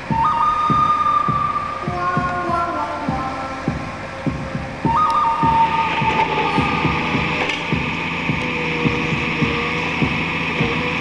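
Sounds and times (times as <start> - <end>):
engine and hydraulic hum: 0.0 - 11.0
low pulses: 0.0 - 11.0.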